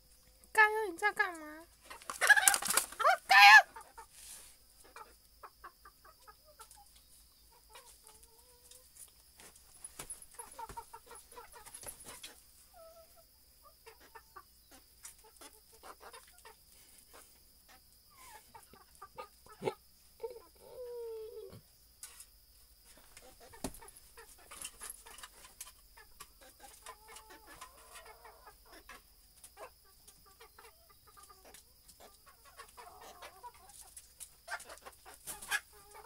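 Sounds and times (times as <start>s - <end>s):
chickens clucking: 0.1s - 36.0s.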